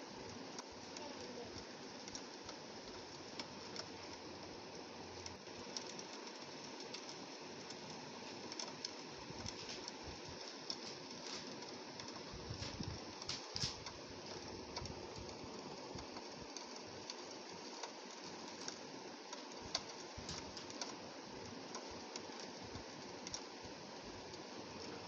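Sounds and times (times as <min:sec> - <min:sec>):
rain on a window pane: 0:00.0 - 0:25.0.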